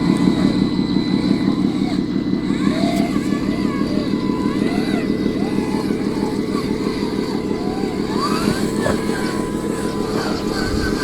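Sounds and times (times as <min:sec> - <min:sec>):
model truck diesel engine: 0:00.0 - 0:11.0.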